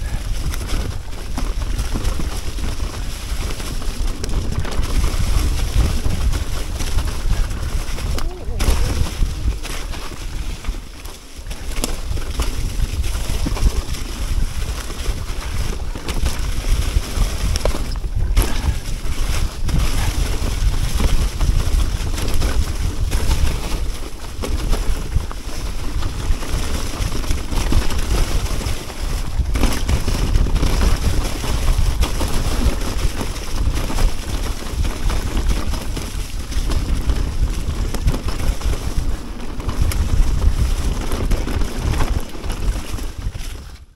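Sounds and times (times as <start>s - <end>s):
bike rattling and knocking: 0.0s - 43.9s
tyres rolling on leaves and dirt: 0.0s - 43.9s
wind buffeting microphone: 0.0s - 43.9s.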